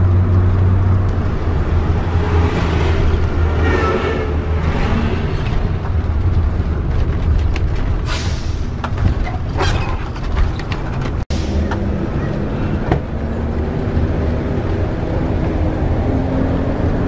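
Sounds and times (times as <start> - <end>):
lorries passing: 0.0 - 17.0
road noise: 0.0 - 17.0.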